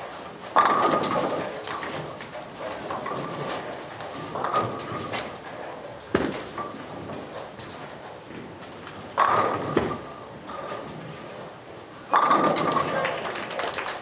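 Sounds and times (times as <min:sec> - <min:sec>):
bowling balls rolling: 0:00.1 - 0:14.0
bowling pins clattering: 0:00.4 - 0:14.0.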